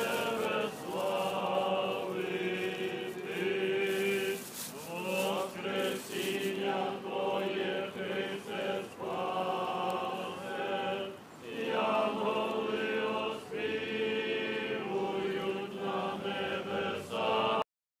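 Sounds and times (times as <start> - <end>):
voices singing liturgical chant: 0.0 - 17.6.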